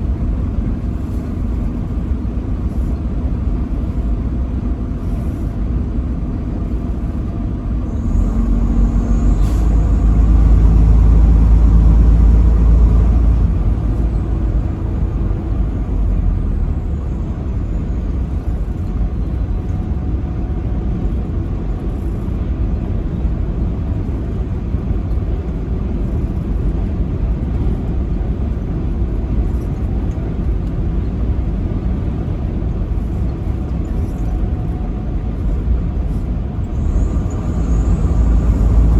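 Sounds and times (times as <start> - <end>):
truck driving on highway: 0.0 - 38.9.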